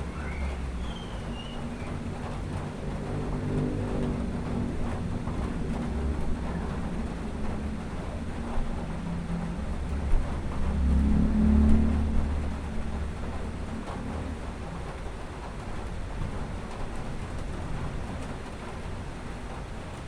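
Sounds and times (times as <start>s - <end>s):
low rumble of vehicle engines: 0.0s - 20.0s.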